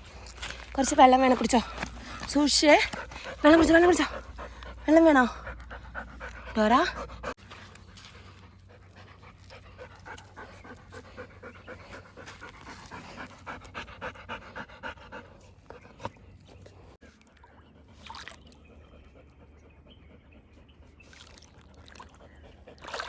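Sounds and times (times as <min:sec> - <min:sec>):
dog panting: 0:00.8 - 0:17.0, 0:18.6 - 0:21.1.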